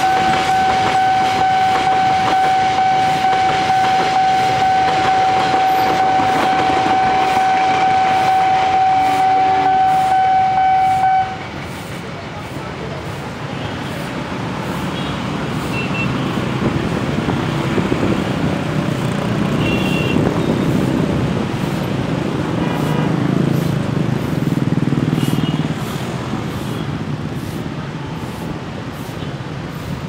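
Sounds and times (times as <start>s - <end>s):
diesel train rumbling: 0.0s - 30.0s.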